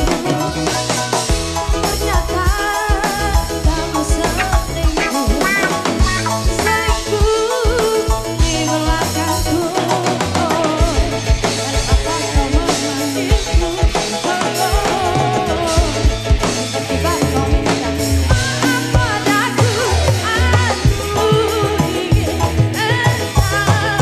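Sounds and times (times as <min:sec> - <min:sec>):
drum kit and hand drums: 0:00.0 - 0:24.0
electric guitars and bass: 0:00.0 - 0:24.0.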